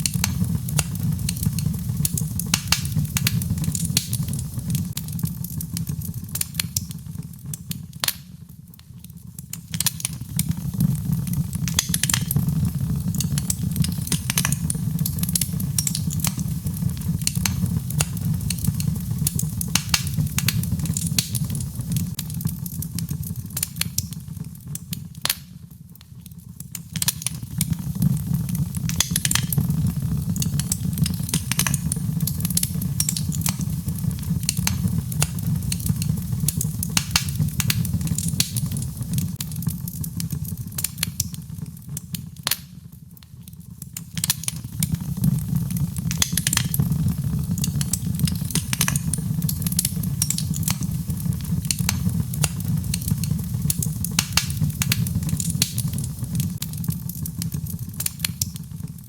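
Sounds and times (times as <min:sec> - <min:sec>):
fire low rumble: 0:00.0 - 0:59.0
logs crackling in fireplace: 0:00.0 - 0:59.0.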